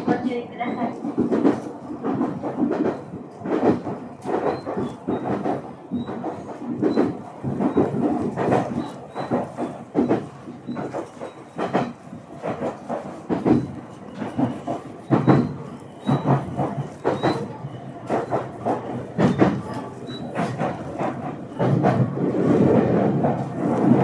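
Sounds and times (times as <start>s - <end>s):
train running rumble: 0.0s - 24.0s
train wheels knocking over rail joints: 0.9s - 24.0s.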